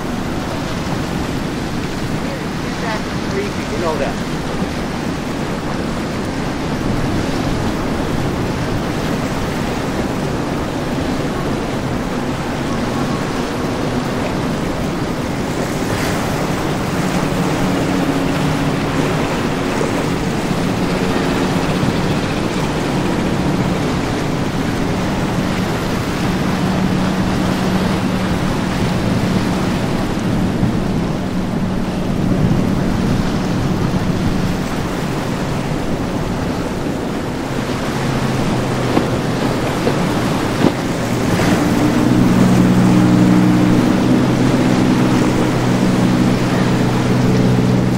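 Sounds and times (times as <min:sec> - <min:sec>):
boat engine drone: 0:00.0 - 0:47.9
rushing water: 0:00.0 - 0:47.9
wind on microphone: 0:00.0 - 0:47.9.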